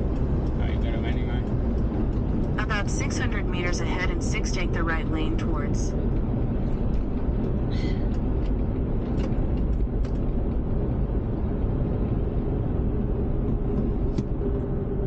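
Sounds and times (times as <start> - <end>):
engine and tyre rumble in van: 0.0 - 4.1, 4.8 - 15.0.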